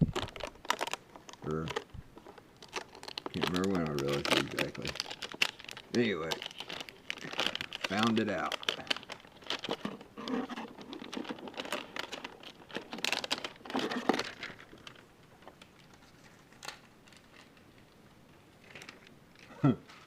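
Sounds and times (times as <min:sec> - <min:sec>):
plastic wrap crinkling and tearing: 0:00.0 - 0:18.0, 0:18.6 - 0:20.0.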